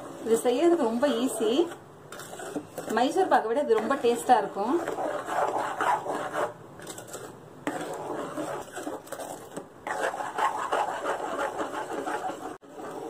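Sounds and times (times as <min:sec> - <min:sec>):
spoon stirring batter in a pan: 0:00.0 - 0:13.0.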